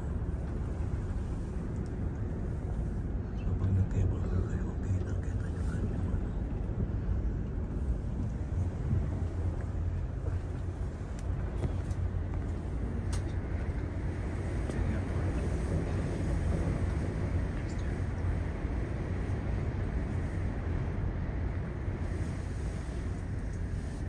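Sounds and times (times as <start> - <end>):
cable car cabin rumble: 0.0 - 24.0.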